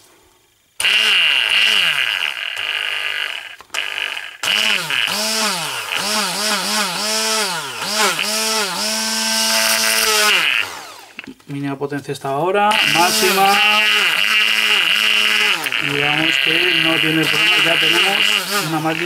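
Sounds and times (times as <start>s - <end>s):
hand blender motor whining: 0.8s - 11.4s, 12.7s - 19.0s.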